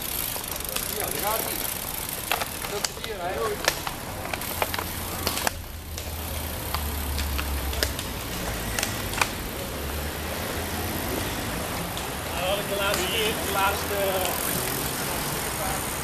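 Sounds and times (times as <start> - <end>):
bicycles rumbling past: 0.0 - 16.0
bike clicks: 0.0 - 16.0.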